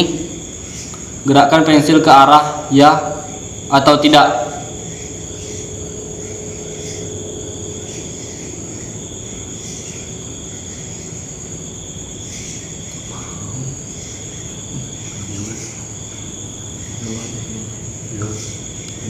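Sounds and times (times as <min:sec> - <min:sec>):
crickets chirping: 0:00.0 - 0:19.0
low background rumble: 0:00.0 - 0:19.0.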